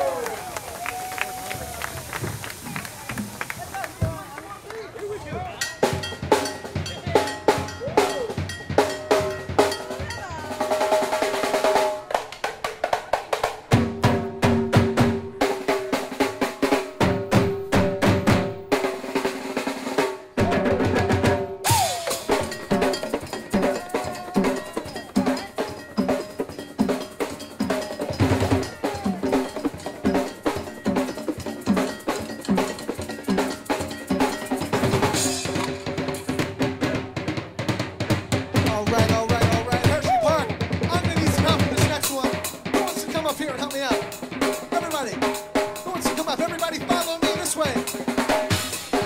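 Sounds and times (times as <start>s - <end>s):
percussion ensemble drumming: 0.0s - 49.0s.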